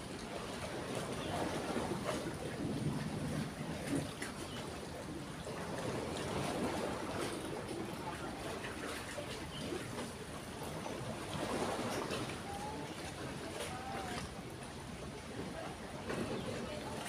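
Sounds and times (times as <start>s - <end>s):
river water trickling: 0.0s - 17.0s.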